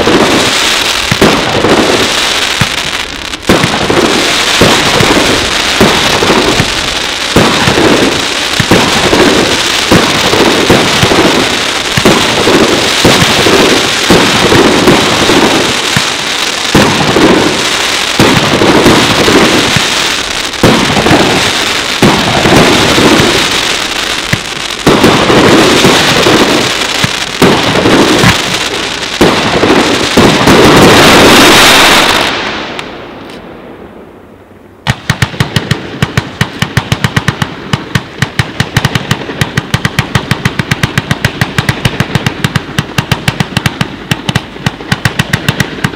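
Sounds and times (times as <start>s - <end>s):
fast string of firework shots: 0.0s - 32.8s, 34.8s - 45.9s
fireworks bangs and crackle: 0.0s - 45.9s.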